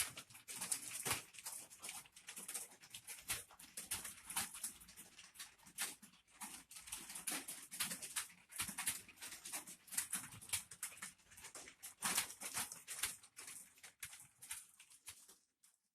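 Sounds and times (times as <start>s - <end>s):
computer keyboard typing: 0.0s - 15.8s.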